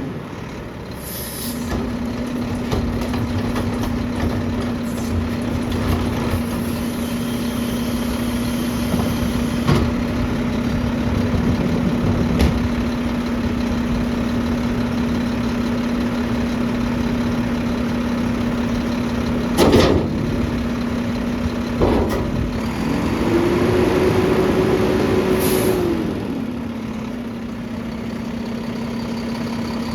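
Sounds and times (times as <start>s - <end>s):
garbage truck engine idling: 0.0s - 25.2s, 26.0s - 29.9s.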